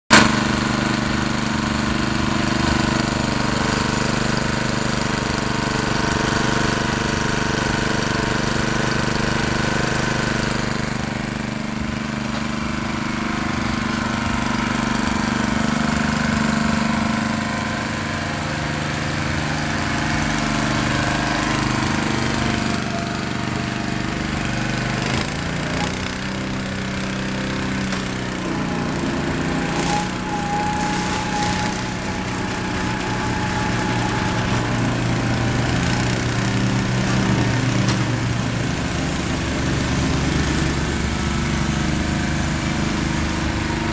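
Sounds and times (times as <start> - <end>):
small engine running steadily: 0.1 - 43.9.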